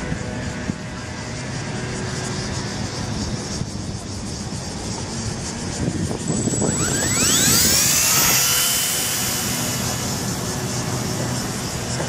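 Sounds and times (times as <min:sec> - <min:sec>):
toy helicopter motor whine: 0:00.0 - 0:12.0.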